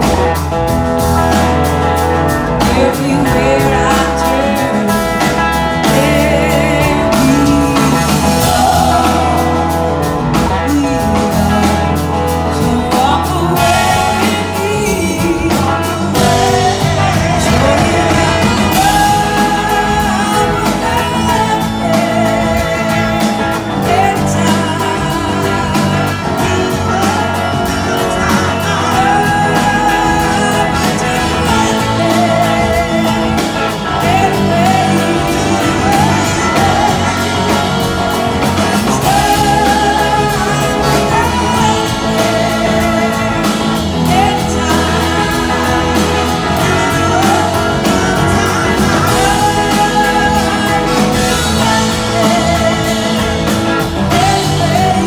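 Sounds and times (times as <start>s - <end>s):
live band playing: 0.0s - 55.0s
woman singing lead vocal: 2.5s - 55.0s.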